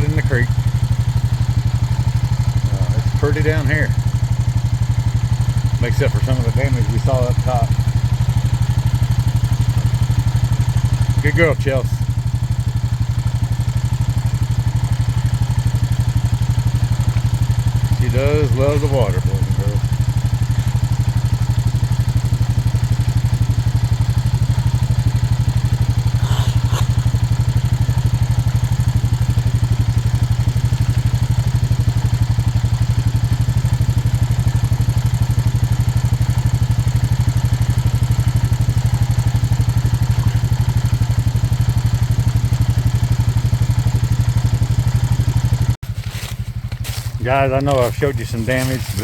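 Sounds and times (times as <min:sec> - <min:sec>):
four-wheeler engine idling: 0:00.0 - 0:49.0.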